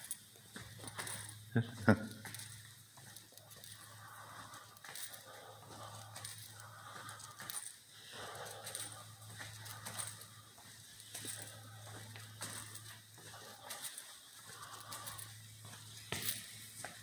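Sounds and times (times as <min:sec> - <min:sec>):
footsteps on hard tile floor: 0:00.0 - 0:17.0
steady low hum: 0:00.0 - 0:17.0.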